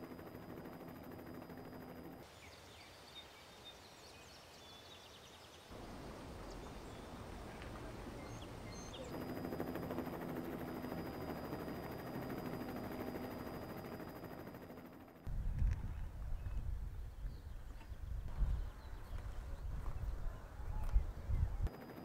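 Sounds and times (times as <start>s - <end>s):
birds chirping: 1.8s - 13.9s, 15.4s - 21.9s.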